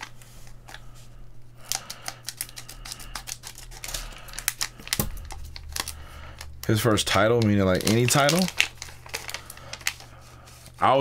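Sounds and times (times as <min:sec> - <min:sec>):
card packaging crinkling: 0:00.0 - 0:11.0.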